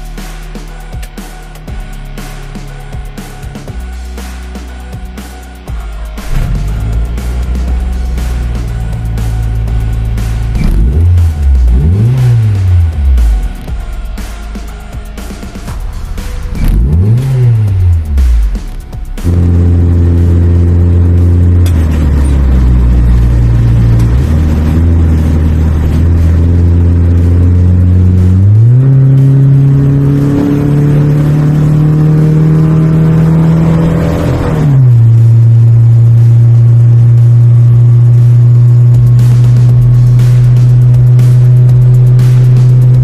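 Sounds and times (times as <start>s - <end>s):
car engine heard from cabin: 5.7s - 13.9s, 14.6s - 43.0s.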